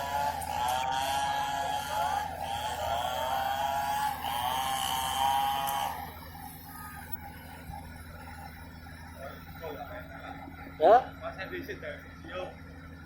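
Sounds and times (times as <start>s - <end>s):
excavator engine hum: 0.0s - 13.0s
hydraulic whine: 0.0s - 13.0s.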